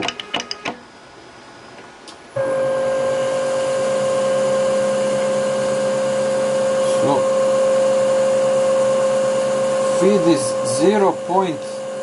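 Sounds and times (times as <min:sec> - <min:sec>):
lathe motor high whine: 0:02.3 - 0:12.0.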